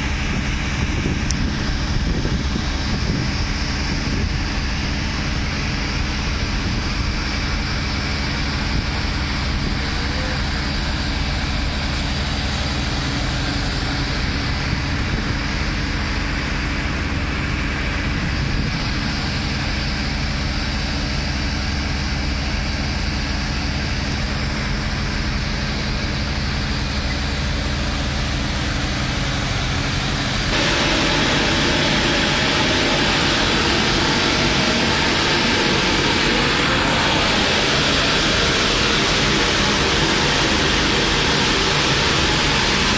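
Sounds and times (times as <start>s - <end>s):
machinery humming: 0.0s - 42.9s
wide rushing noise: 0.0s - 42.9s.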